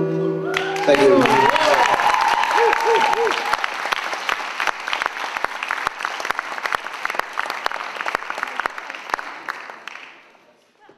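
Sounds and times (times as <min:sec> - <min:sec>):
audience applauding: 0:00.5 - 0:10.4.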